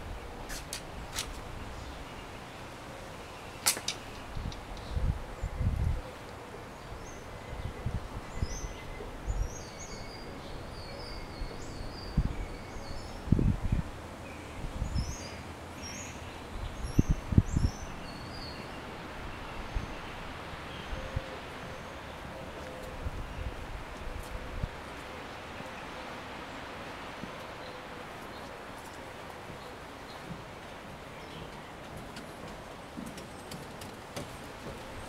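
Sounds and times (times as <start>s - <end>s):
outdoor background noise: 0.0s - 35.0s
small birds chirping: 0.2s - 26.6s, 27.3s - 35.0s.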